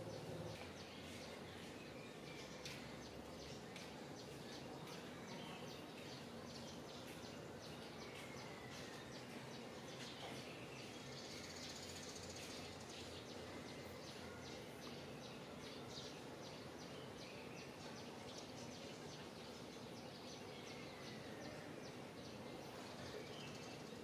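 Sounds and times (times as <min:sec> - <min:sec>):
faint outdoor background noise: 0:00.0 - 0:24.0
small birds chirping: 0:00.0 - 0:24.0.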